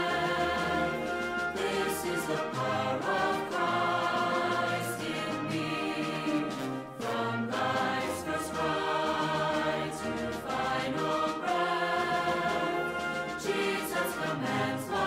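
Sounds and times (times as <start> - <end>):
group singing a slow hymn: 0.0 - 15.0.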